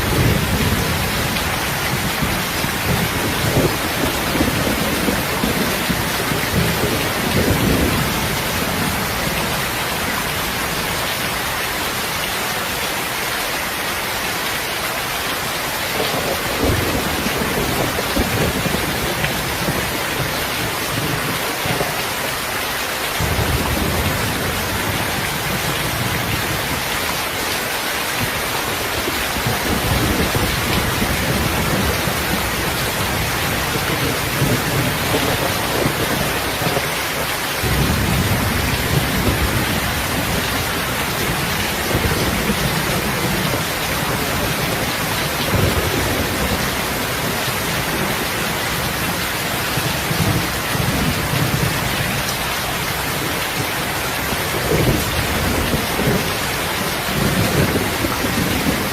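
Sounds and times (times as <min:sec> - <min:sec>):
heavy rain: 0:00.0 - 0:58.9.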